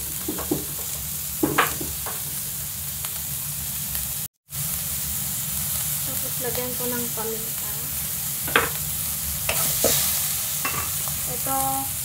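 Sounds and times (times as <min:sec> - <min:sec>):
meat and onion sizzling in a wok: 0:00.0 - 0:12.0.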